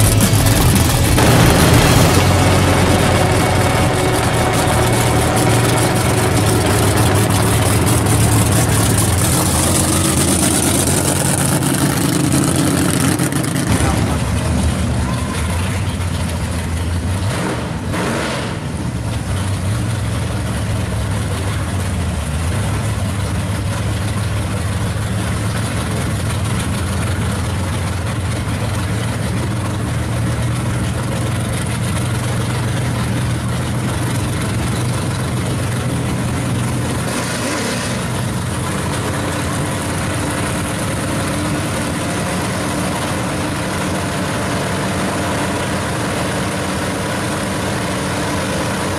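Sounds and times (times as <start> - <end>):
car engines idling: 0.0 - 48.9.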